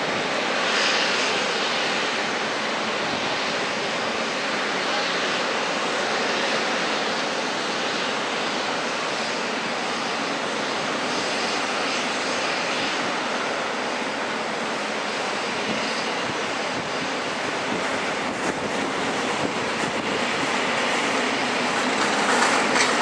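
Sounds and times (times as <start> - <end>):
jet engines hissing: 0.0 - 23.0.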